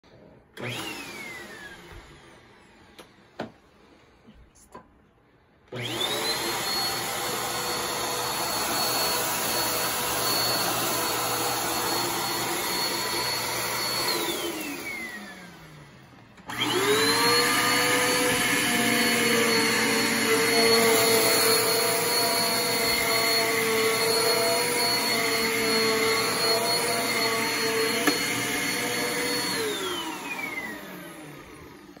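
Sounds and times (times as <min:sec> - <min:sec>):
upright vacuum cleaner whining: 0:00.1 - 0:03.9, 0:05.7 - 0:32.0.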